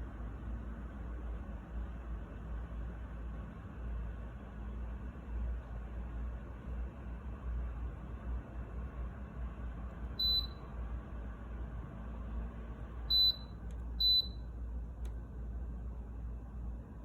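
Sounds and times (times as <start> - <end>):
steady fan hiss: 0.0 - 17.0.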